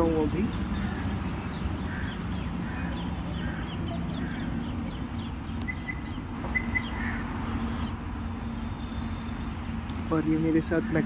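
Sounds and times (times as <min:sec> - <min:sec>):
low traffic rumble: 0:00.0 - 0:11.0
small birds chirping: 0:00.0 - 0:11.0.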